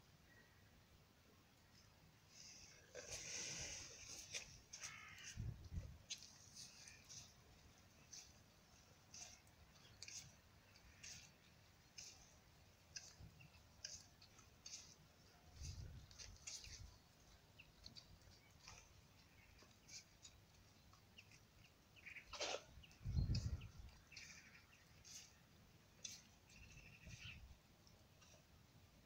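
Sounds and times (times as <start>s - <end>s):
small birds chirping: 1.6s - 29.0s.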